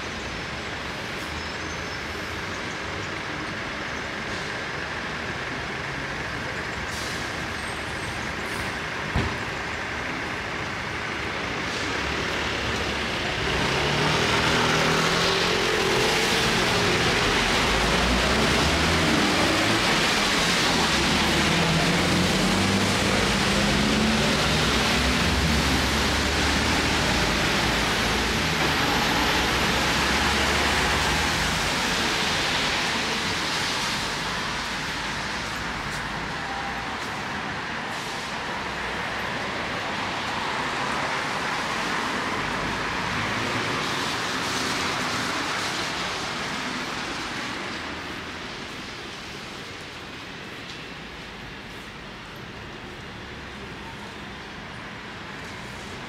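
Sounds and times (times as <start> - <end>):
heavy road vehicle engine: 0.0 - 56.0
traffic hiss: 0.0 - 56.0.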